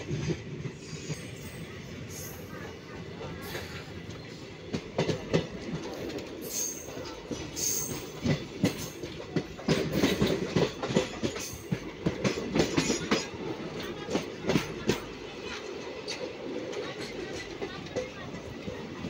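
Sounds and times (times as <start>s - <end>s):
train rumbling: 0.0s - 19.0s
wheels clacking over rail joints: 3.0s - 19.0s.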